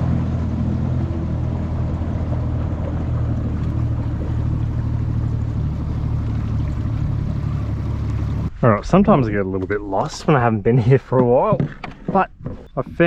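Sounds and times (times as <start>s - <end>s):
outboard motor running: 0.0s - 8.6s, 10.0s - 13.0s.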